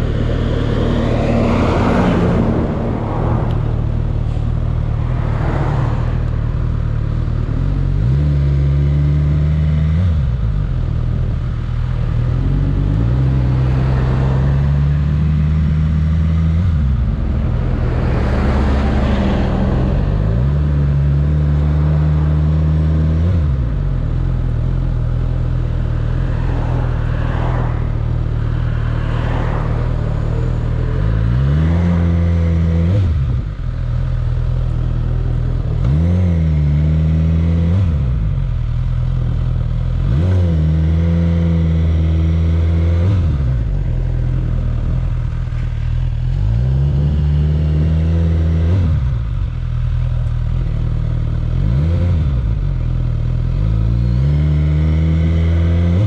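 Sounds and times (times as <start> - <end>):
motorcycle engine in traffic: 0.0 - 56.0.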